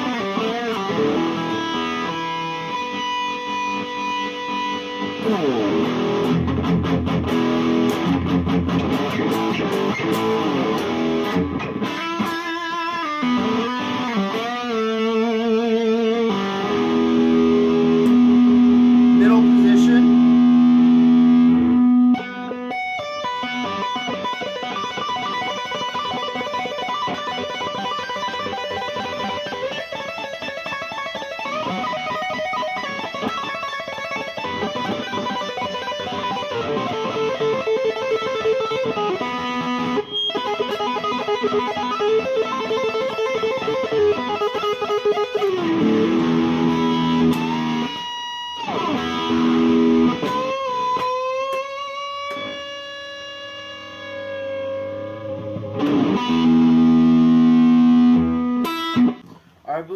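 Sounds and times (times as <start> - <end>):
electric guitar lead runs: 0.0 - 59.4.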